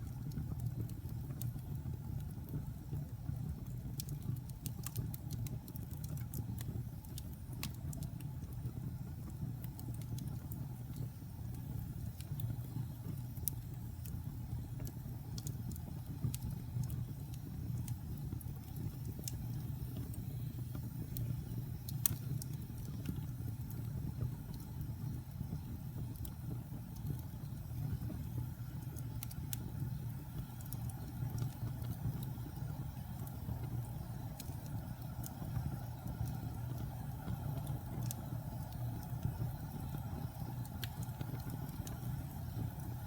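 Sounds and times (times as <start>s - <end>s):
fire crackling and popping: 0.0s - 43.0s
low rumble of burning: 0.0s - 43.0s.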